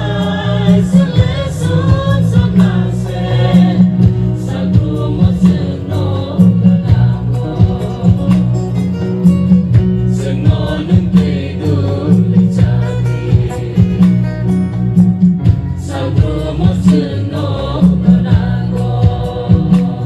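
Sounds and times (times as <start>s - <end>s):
song with singing and heavy bass: 0.0s - 20.0s.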